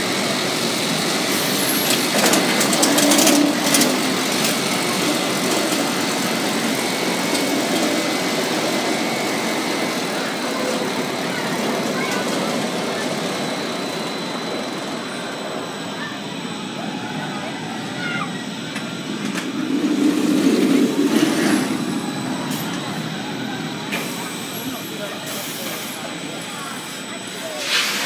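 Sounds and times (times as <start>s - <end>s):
roller coaster rumbling on track: 0.0s - 28.0s.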